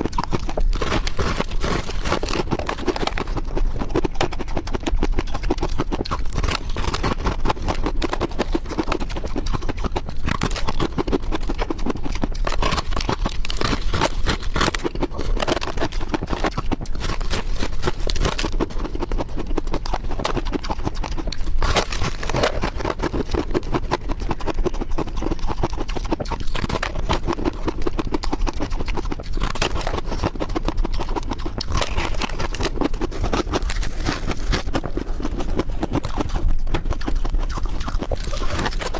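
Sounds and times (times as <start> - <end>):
ice crunching and chewing: 0.0 - 38.9.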